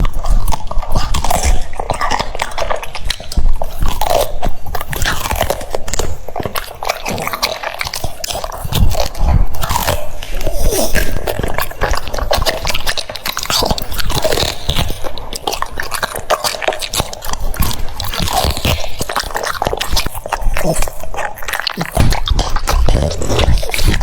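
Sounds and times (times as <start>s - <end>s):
dog crunching cucumber: 0.0s - 24.0s.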